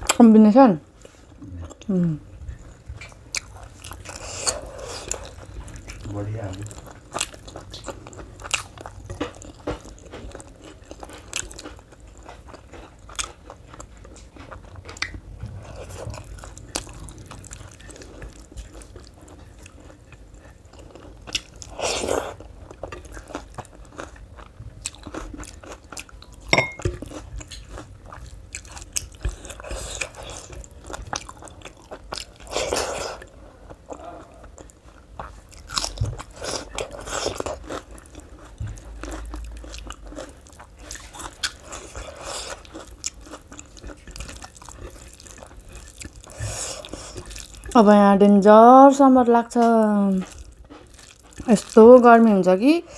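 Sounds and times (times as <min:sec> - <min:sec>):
chewing and crunching food: 0:00.8 - 0:52.9.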